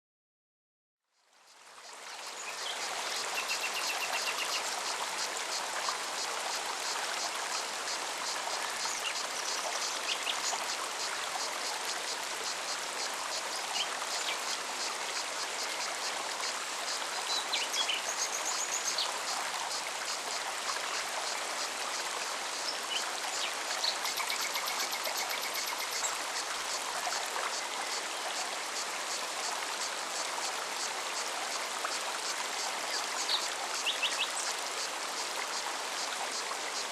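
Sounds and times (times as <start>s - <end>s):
stream running over rocks: 1.2s - 36.9s
cicada pulsing song: 1.5s - 32.0s.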